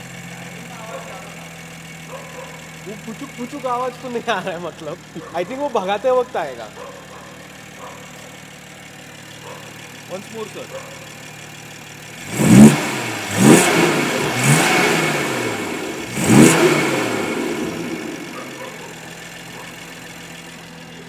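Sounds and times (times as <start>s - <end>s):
car engine idling: 0.0s - 21.0s
car engine revving: 0.0s - 21.0s.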